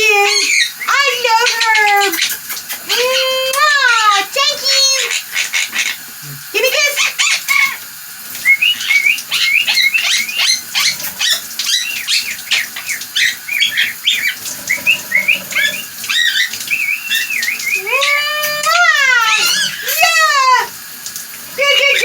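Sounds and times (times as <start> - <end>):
parrot chirping and squawking: 0.0 - 20.8, 21.6 - 22.0.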